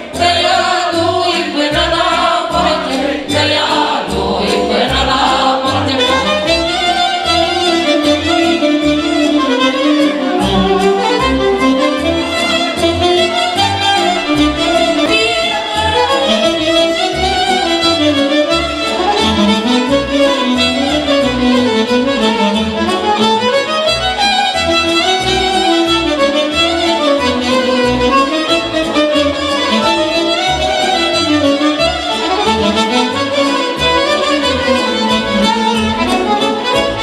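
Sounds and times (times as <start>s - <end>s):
fiddle melody: 0.0s - 37.0s.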